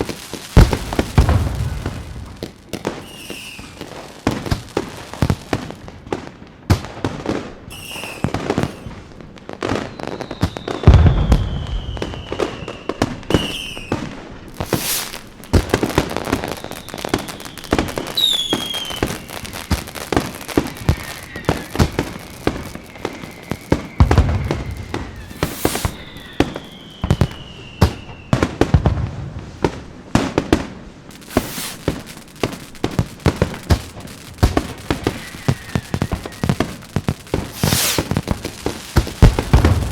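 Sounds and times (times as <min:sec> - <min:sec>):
falling firework whistles: 0:00.0 - 0:06.2, 0:07.0 - 0:29.8, 0:30.6 - 0:39.9
deep firework booms: 0:00.0 - 0:09.8, 0:10.4 - 0:39.9
fireworks bangs and crackling: 0:00.0 - 0:39.9.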